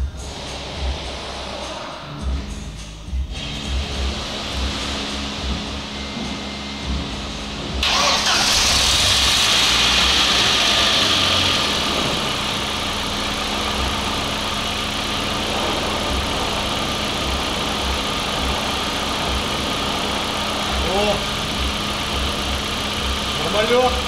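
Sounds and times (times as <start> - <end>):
car engine starting and idling: 0.0 - 24.0.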